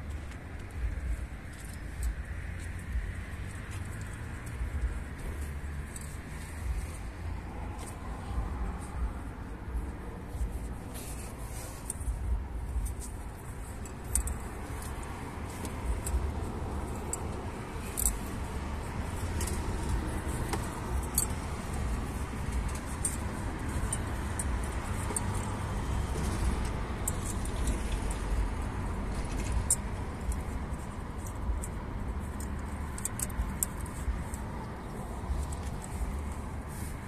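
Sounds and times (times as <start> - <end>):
metallic clicks and clinks: 0.0 - 37.0
steady low rumble: 0.0 - 37.0.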